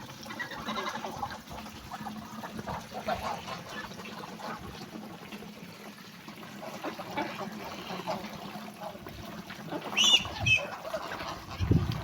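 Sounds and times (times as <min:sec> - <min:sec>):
geese and ducks calling: 0:00.2 - 0:04.8, 0:06.6 - 0:12.0.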